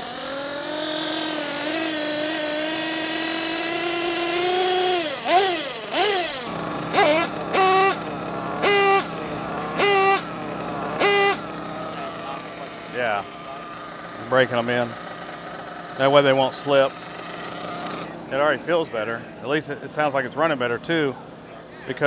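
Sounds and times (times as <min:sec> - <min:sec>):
small nitro engine revving: 0:00.0 - 0:18.1.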